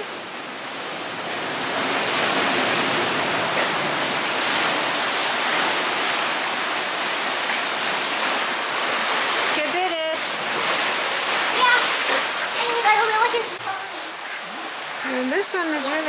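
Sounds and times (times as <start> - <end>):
surf washing over rocks: 0.0 - 16.0.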